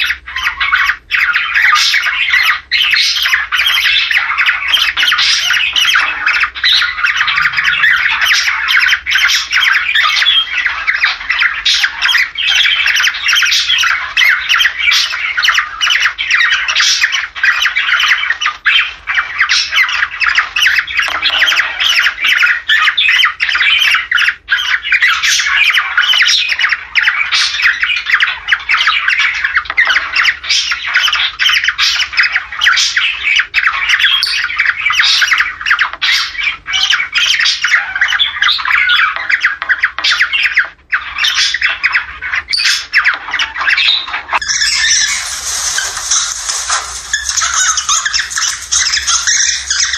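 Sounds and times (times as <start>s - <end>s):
cockatiels squawking and warbling: 0.0s - 49.9s.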